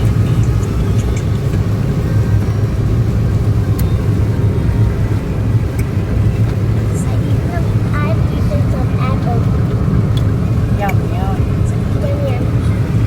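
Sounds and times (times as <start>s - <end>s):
car rumbling while moving: 0.0s - 13.0s.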